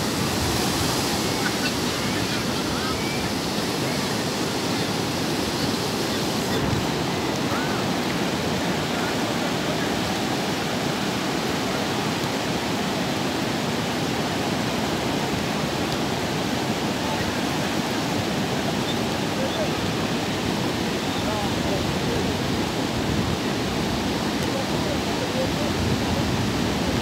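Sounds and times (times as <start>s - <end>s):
waves breaking on beach: 0.0s - 27.0s.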